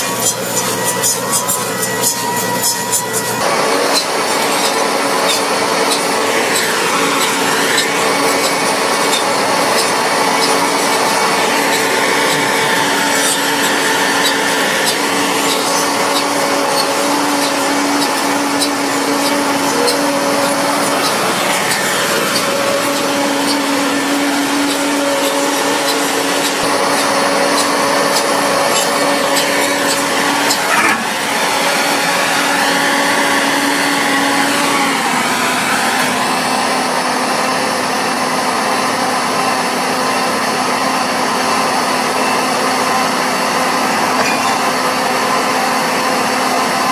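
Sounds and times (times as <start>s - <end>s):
harvester machine drone: 0.0s - 46.9s.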